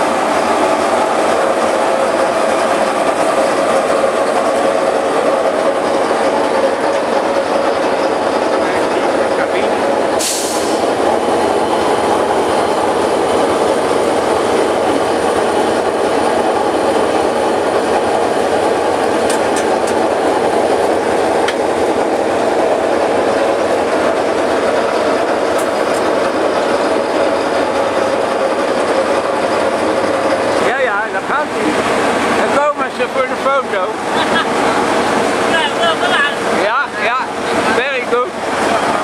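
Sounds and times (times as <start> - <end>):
locomotive cab running noise: 0.0 - 39.0.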